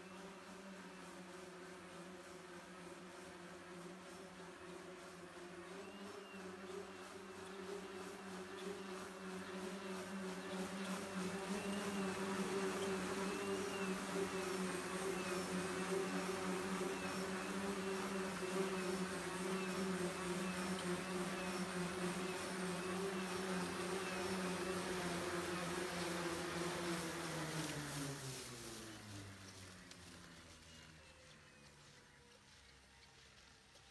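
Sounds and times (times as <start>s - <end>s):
electric propellers buzzing: 0.0s - 32.0s.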